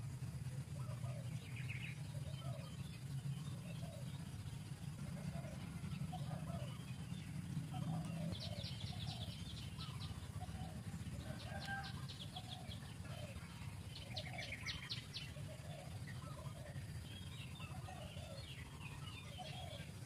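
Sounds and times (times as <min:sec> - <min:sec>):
birds trilling: 0:00.0 - 0:20.0
low background rumble: 0:00.0 - 0:20.0
bird clucking calls: 0:03.6 - 0:20.0.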